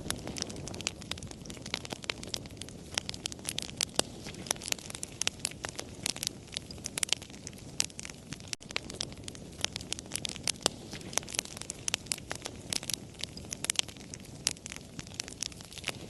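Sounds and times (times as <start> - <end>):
low rumble of burning: 0.0 - 16.0
wood fire popping and snapping: 0.0 - 16.0.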